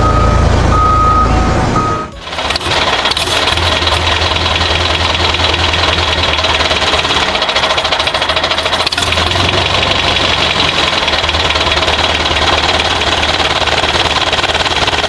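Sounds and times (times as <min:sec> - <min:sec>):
engine idling with knocking rattle: 0:02.2 - 0:15.0.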